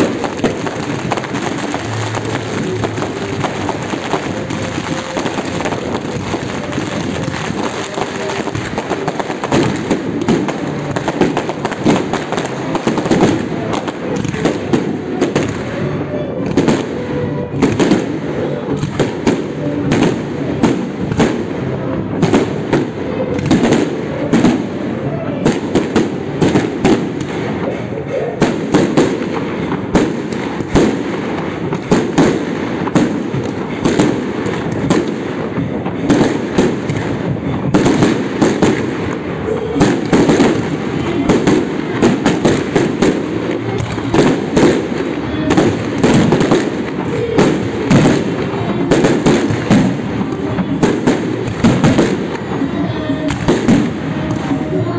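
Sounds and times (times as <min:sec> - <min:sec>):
fireworks bangs: 0:00.0 - 0:54.9
fireworks rumble: 0:00.0 - 0:54.9.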